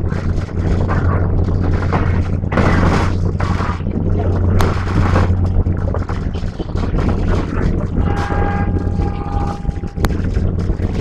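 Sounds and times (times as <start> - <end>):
rush of noise: 0.0 - 11.0
train interior drone: 0.0 - 11.0
wheels rumbling on rails: 0.0 - 11.0.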